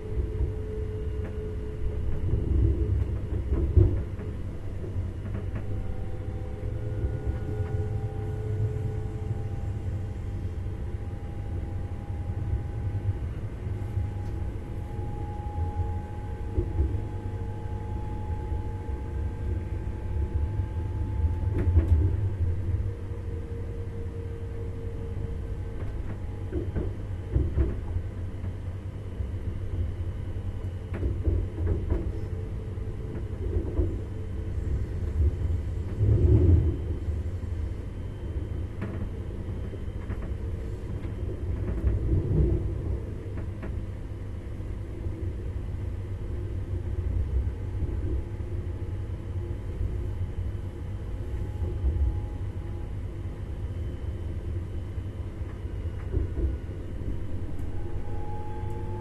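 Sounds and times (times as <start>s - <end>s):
train knocks and clatters: 0.0s - 9.8s, 11.0s - 59.0s
train rumbling on track: 0.0s - 59.0s.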